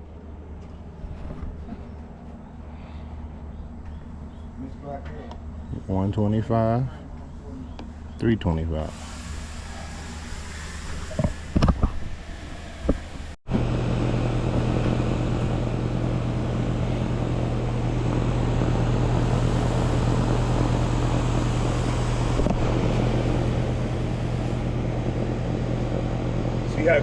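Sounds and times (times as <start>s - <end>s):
compressor humming: 0.0s - 27.0s
condenser fan rushing: 0.0s - 27.0s.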